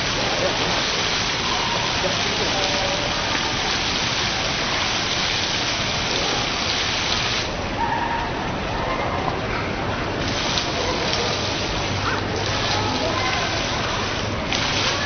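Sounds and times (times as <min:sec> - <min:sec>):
water streams falling: 0:00.0 - 0:15.0.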